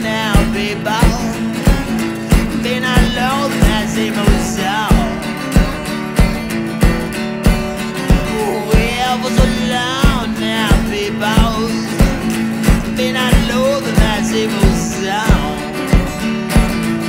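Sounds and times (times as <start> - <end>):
blues-rock band music: 0.0 - 17.0
kick drum beat: 0.0 - 17.0.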